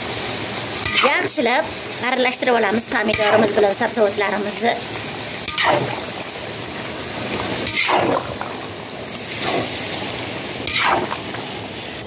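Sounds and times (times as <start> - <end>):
oil sizzling: 0.0 - 12.0
vegetables stirred in pot: 0.5 - 11.9.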